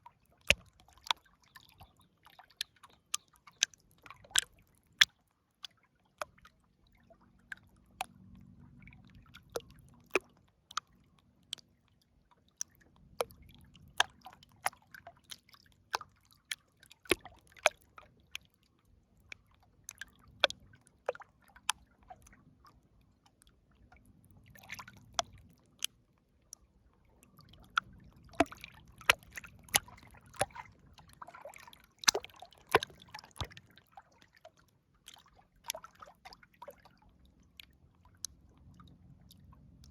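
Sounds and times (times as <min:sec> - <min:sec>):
water plops and drips: 0:00.2 - 0:39.9
river water sloshing: 0:00.3 - 0:11.7, 0:12.7 - 0:18.4, 0:24.4 - 0:26.1, 0:26.7 - 0:39.9.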